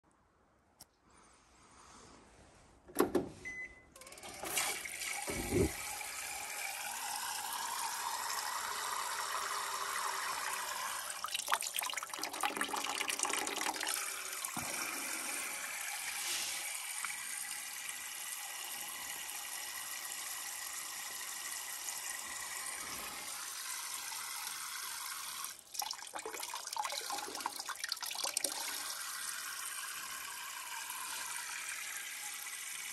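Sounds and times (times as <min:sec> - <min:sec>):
water pouring into plastic bucket: 0:04.2 - 0:19.4, 0:21.2 - 0:32.9.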